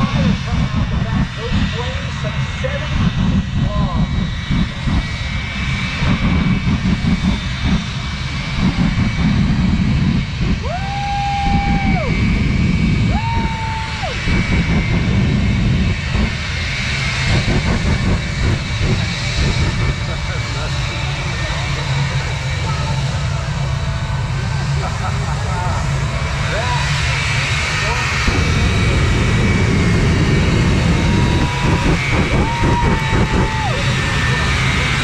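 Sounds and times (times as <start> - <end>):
jet engine afterburner roar: 0.0 - 35.0.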